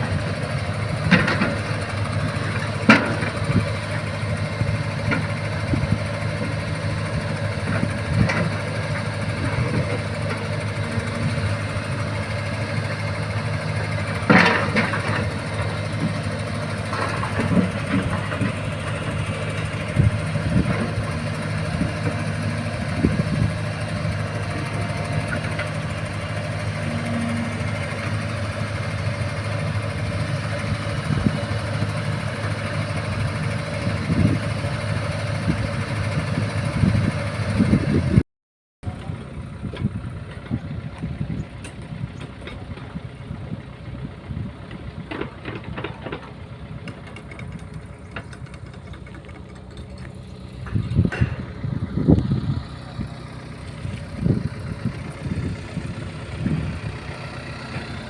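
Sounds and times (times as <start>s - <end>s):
excavator diesel engine running: 0.0s - 38.2s, 38.8s - 58.0s.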